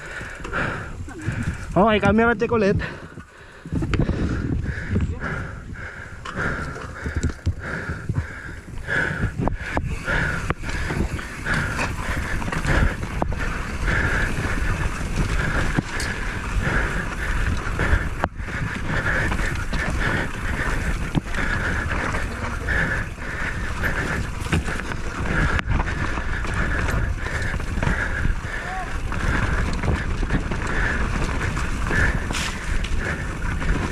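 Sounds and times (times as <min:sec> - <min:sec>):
wind buffeting microphone: 0:00.0 - 0:33.9
bike knocks and rattles: 0:06.2 - 0:33.9.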